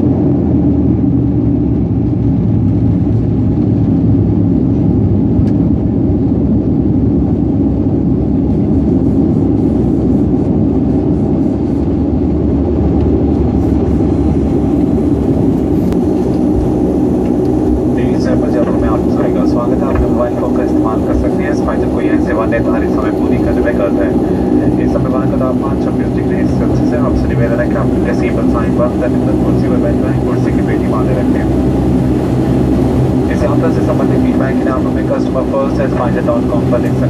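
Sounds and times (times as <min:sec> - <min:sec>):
turboprop engine drone in cabin: 0:00.0 - 0:37.0.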